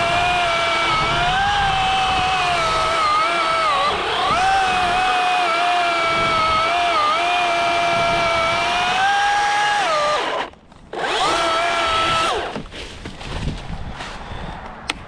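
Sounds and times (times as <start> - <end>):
battery chainsaw motor whining: 0.0 - 12.8.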